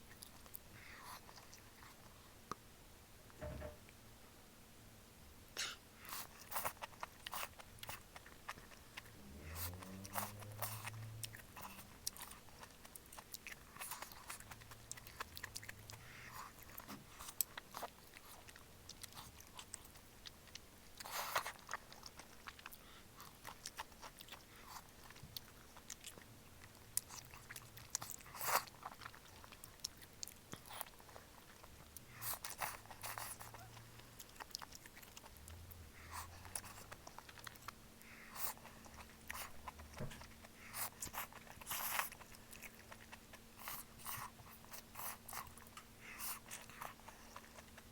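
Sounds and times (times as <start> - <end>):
chewing and biting: 0.0 - 2.2, 6.0 - 47.9
food crunching: 6.0 - 47.9.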